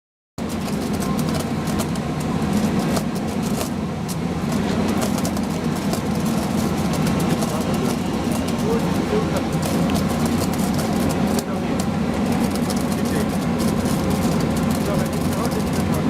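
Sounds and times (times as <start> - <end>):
welding machinery drone with crackling: 0.4 - 16.0.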